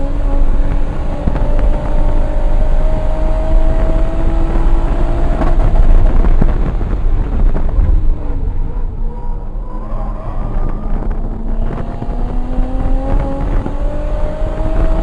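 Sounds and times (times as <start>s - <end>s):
road and wind noise in cabin: 0.0s - 15.0s
turbocharged engine pulling hard: 0.0s - 15.0s.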